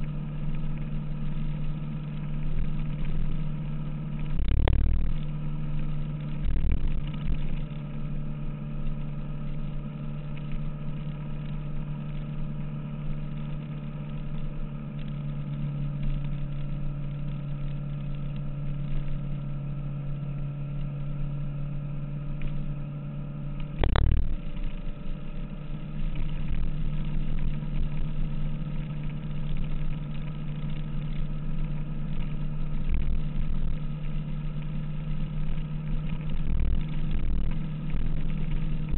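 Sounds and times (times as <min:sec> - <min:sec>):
wind rumble on microphone: 0:00.0 - 0:22.9, 0:23.5 - 0:38.9.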